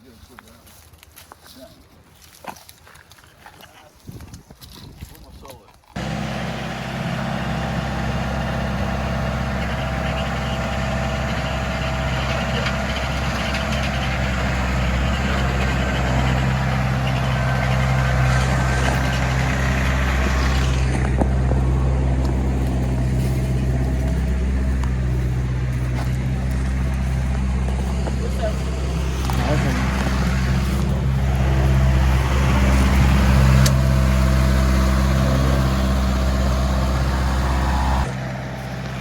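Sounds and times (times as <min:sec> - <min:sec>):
heavy engine running: 0:06.0 - 0:39.0.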